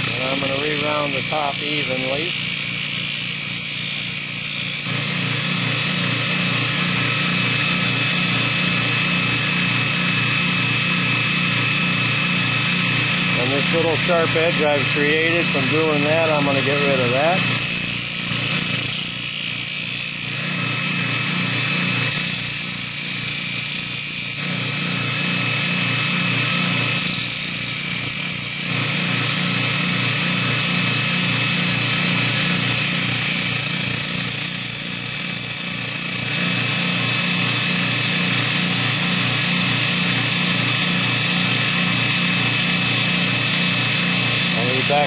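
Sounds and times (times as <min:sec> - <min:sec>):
grinder motor hum: 0:00.0 - 0:45.0.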